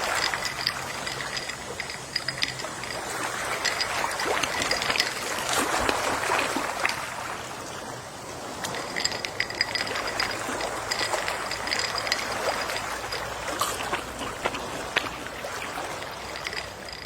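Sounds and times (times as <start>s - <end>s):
sea waves lapping: 0.0s - 17.0s
small trickling splashes and clicks: 0.0s - 17.0s.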